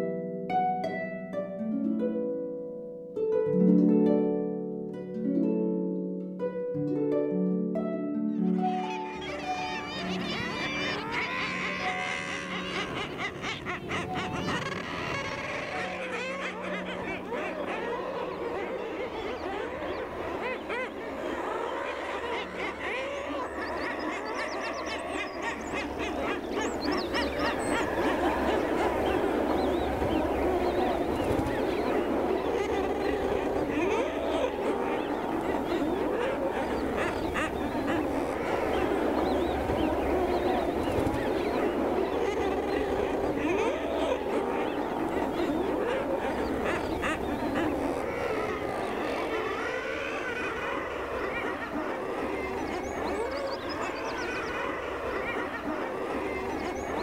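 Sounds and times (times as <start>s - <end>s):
seabird colony calling: 8.5s - 57.0s.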